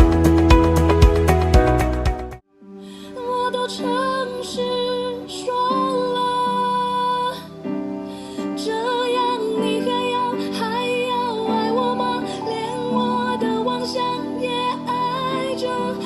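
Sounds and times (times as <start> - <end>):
soft sustained accompaniment: 2.5 - 16.0
woman singing slow melody: 2.6 - 16.0.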